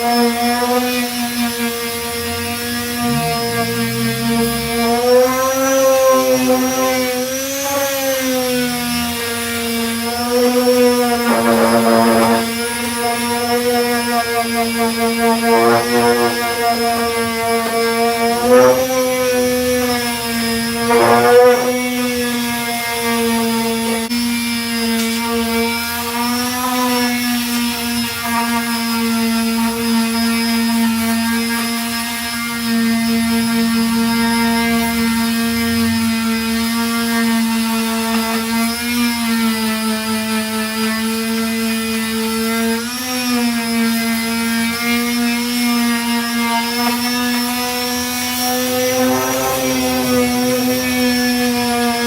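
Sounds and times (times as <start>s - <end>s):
electric disc sander sanding: 0.0s - 52.0s.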